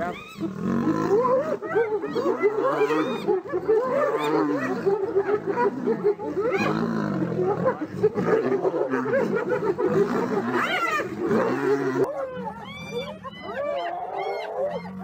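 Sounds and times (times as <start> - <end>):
lions and hyenas growling: 0.0 - 15.0.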